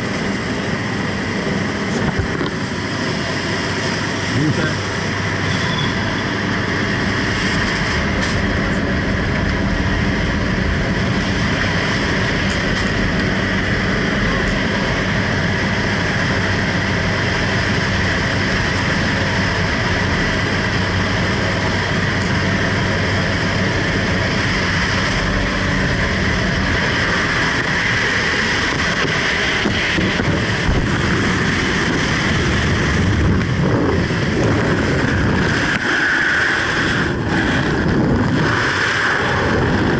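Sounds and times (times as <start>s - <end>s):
plane engine and propeller drone: 0.0s - 39.9s
wind rushing through open door: 0.0s - 39.9s.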